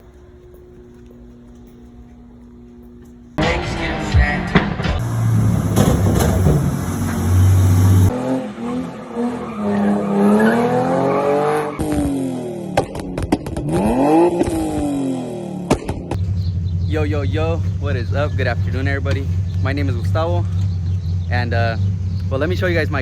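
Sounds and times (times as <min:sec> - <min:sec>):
car engine revving: 0:03.4 - 0:23.0.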